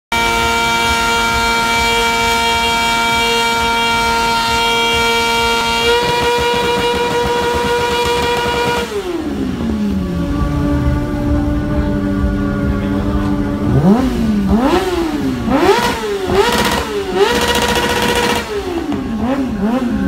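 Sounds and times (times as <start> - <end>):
small motorcycle engine revving high: 0.1 - 20.0.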